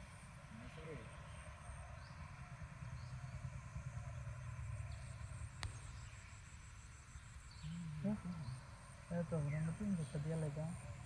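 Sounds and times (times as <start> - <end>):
low steady motor hum: 0.0 - 11.0.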